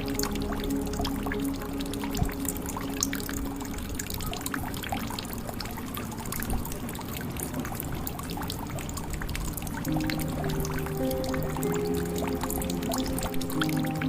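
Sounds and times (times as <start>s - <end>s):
water dripping into a jug: 0.0s - 14.0s.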